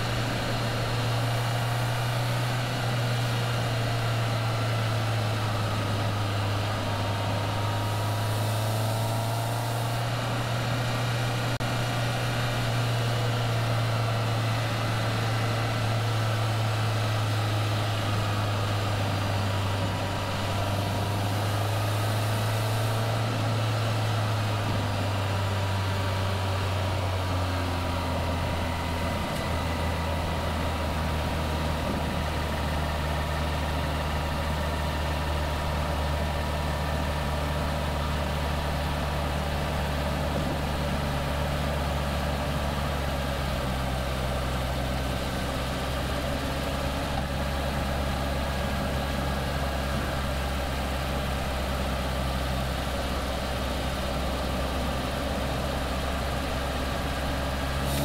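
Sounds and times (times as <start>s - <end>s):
car engine cruising: 0.0s - 58.0s
wind and road noise: 0.0s - 58.0s.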